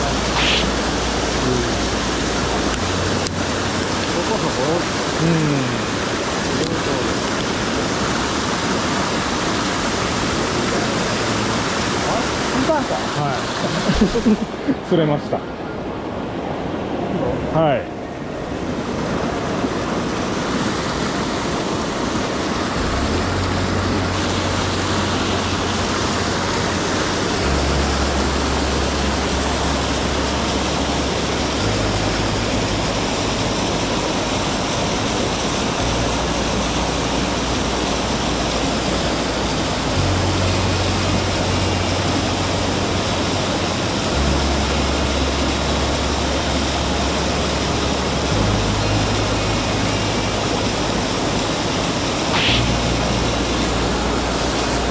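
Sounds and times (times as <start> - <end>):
low steady notes: 0.0 - 54.9
stream rushing over rocks: 0.0 - 54.9.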